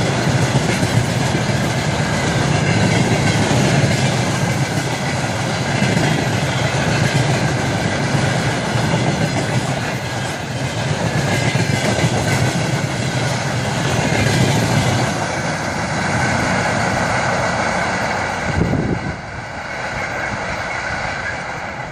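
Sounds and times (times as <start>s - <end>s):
train wheels clattering over rails: 0.0s - 21.9s.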